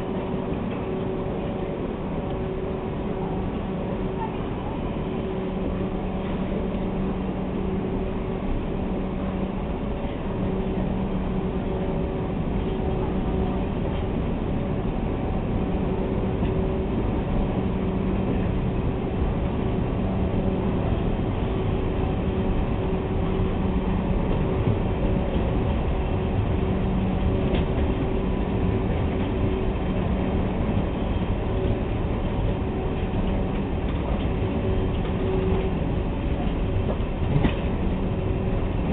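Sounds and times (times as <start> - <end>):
continuous rumble: 0.0 - 38.9
train machinery hum: 0.0 - 38.9.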